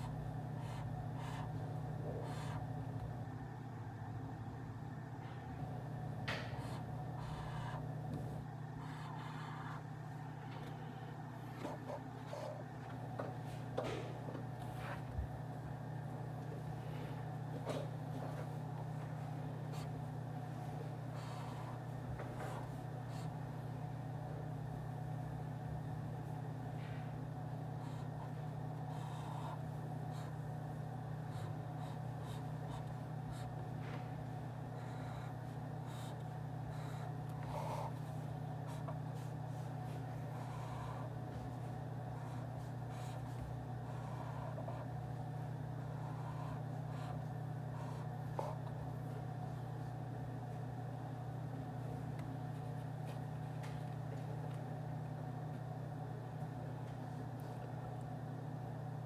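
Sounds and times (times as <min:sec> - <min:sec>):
low office hum: 0:00.0 - 0:59.0.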